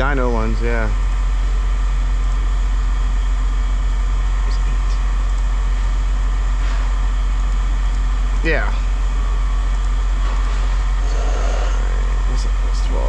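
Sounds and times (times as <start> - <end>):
engine humming deeply: 0.0 - 13.0.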